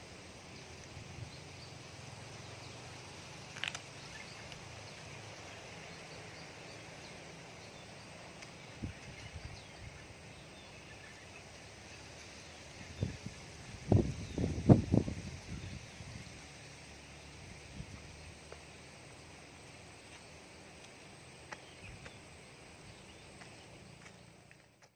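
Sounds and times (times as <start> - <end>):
bird or insect chirps: 0.0 - 24.9
steady hiss: 0.0 - 24.9.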